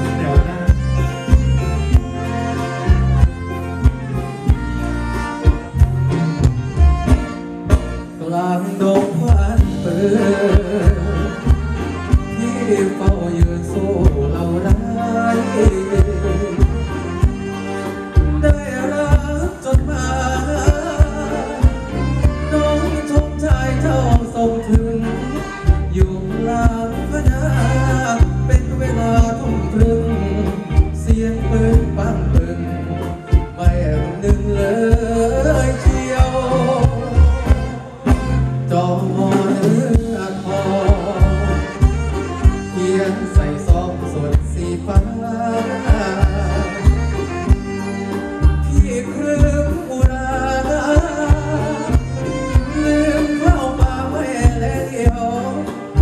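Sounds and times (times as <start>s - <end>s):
person singing: 0.0s - 4.6s, 8.1s - 56.0s
drums with heavy beat: 0.0s - 8.2s, 8.8s - 56.0s
electric guitars: 0.0s - 56.0s.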